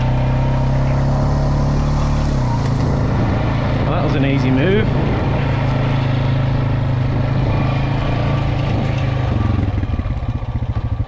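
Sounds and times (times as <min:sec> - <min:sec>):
farm vehicle engine running: 0:00.0 - 0:11.0.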